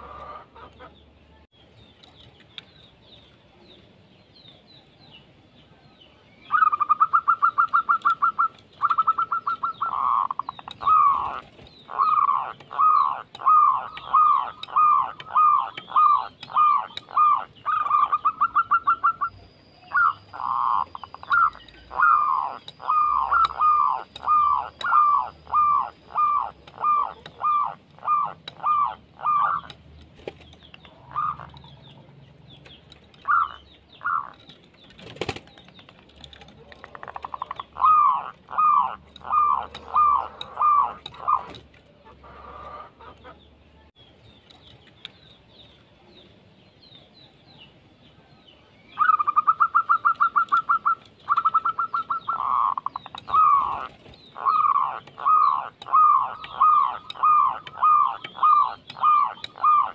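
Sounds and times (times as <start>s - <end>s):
turtledove calling: 0.0s - 1.2s, 6.4s - 35.3s, 36.3s - 43.6s, 48.9s - 59.9s.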